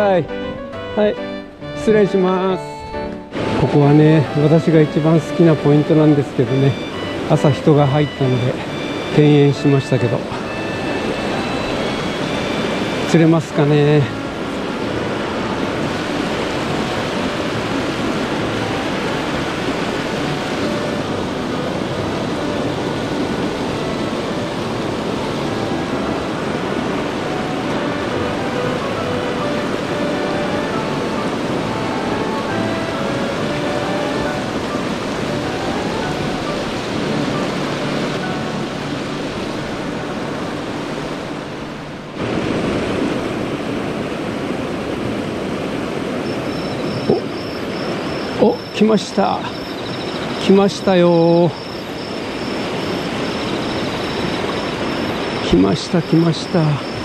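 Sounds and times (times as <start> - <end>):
mountain river rushing: 0.0 - 57.0.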